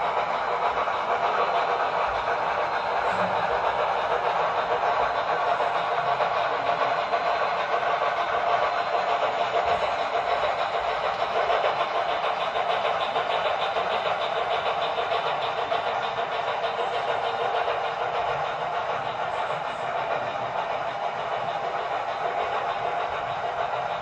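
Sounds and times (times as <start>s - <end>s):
model train rolling on track: 0.0s - 24.0s
steam locomotive sound from speakers: 0.0s - 24.0s.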